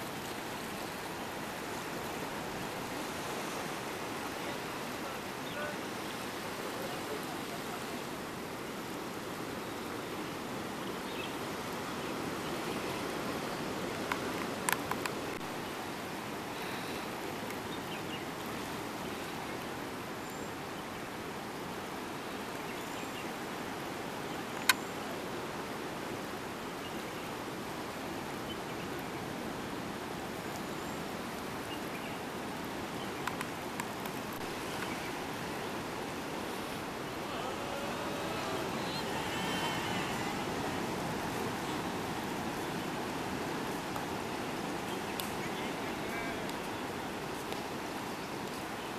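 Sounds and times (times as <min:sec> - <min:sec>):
sea surf on a beach: 0:00.0 - 0:48.9.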